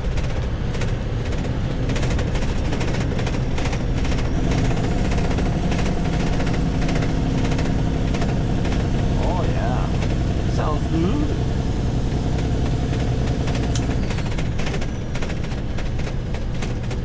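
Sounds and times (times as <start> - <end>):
rapid rattling clatter: 0.0 - 17.0
truck diesel engine running: 0.0 - 17.0.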